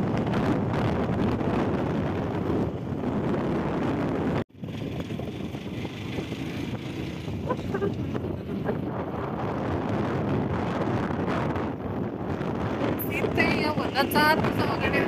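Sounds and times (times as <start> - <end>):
motorbike engine hum: 0.0 - 15.0
wind buffeting microphone: 0.0 - 15.0.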